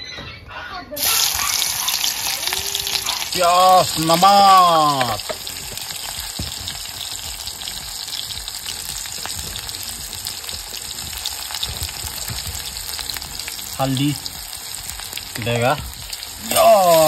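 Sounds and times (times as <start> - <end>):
onions sizzling in oil: 1.0 - 17.0.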